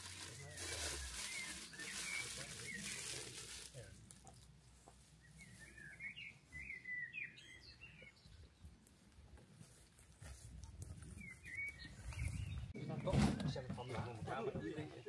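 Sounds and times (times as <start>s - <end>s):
songbird chirping: 0.4s - 15.0s.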